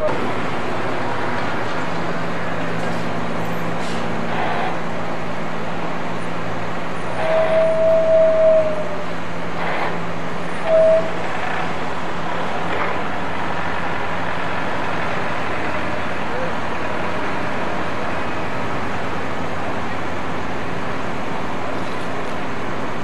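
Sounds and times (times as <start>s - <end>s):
crane engine running: 0.0s - 23.0s.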